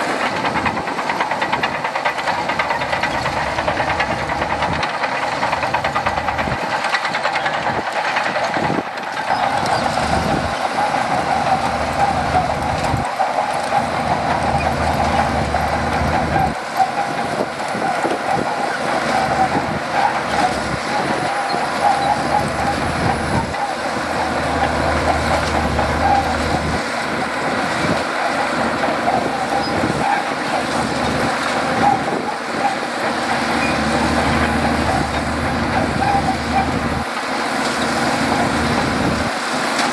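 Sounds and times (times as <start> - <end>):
bulldozer diesel engine and tracks: 0.0 - 39.9.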